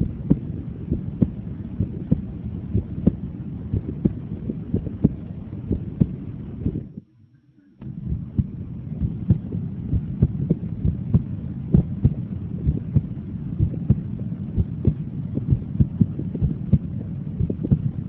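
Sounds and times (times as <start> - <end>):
heartbeat through stethoscope: 0.0 - 7.0, 7.8 - 18.0
steady low rumble: 0.0 - 7.1, 7.8 - 18.0.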